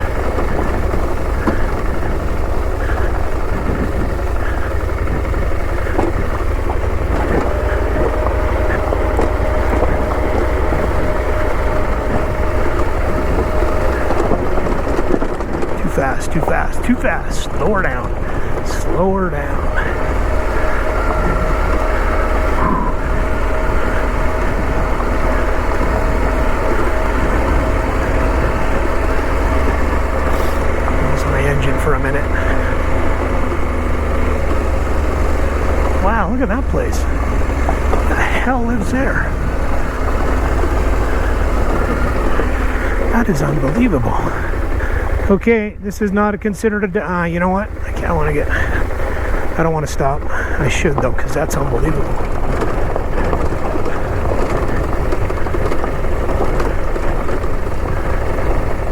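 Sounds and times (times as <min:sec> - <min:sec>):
faint steady whine: 0:00.0 - 0:58.9
motorcycle engine running at low revs: 0:00.0 - 0:58.9.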